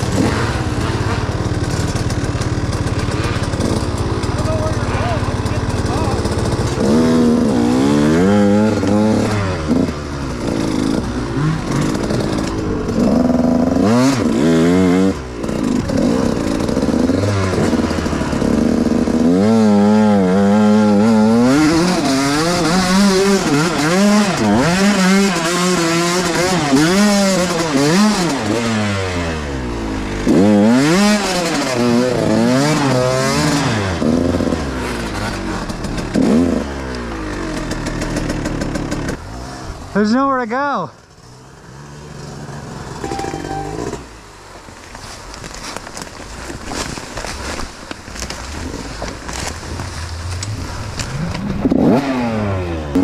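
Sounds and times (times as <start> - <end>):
dirt bike engine revving: 0.0 - 45.2, 45.9 - 53.0.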